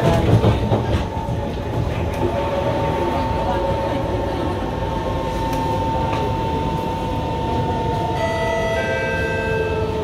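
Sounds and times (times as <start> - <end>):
train rumble with motor whine: 0.0 - 10.0.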